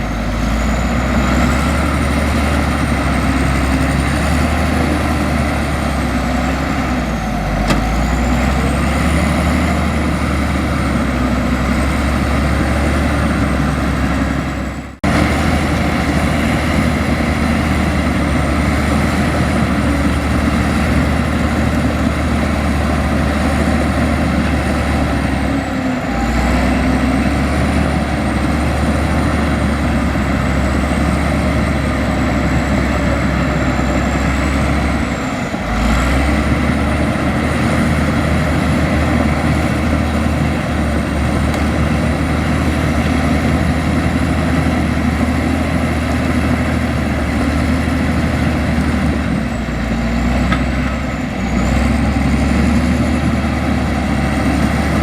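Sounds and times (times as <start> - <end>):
bulldozer engine whining: 0.0 - 55.0.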